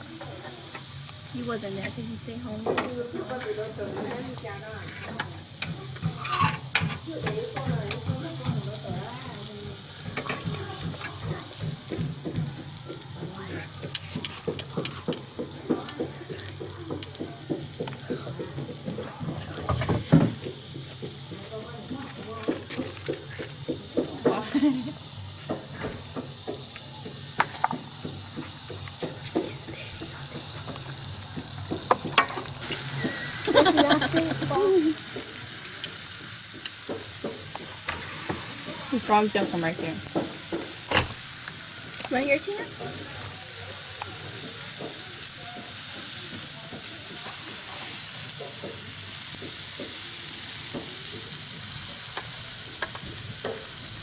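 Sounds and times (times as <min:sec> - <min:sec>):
shrimp sizzling on grill pan: 0:00.0 - 0:54.0.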